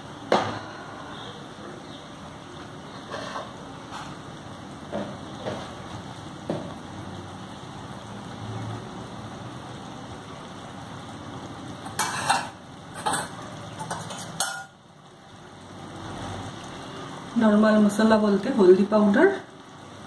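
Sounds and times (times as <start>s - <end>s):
tomato frying in hot oil: 0.0s - 20.0s.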